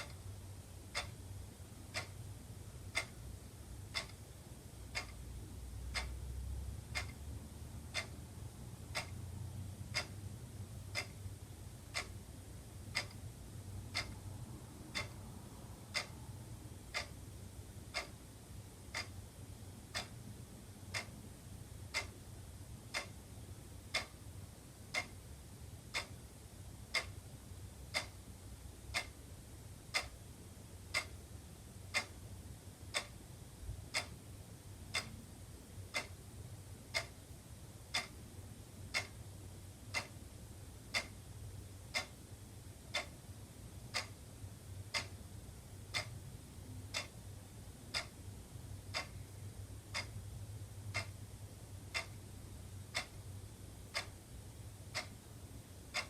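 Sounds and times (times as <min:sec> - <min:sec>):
wall clock ticking: 0:00.0 - 0:56.0.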